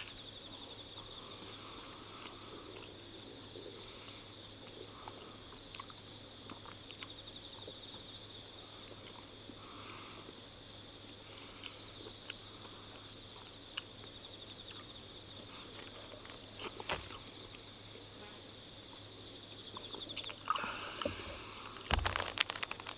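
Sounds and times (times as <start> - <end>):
insects trilling: 0.0 - 22.9.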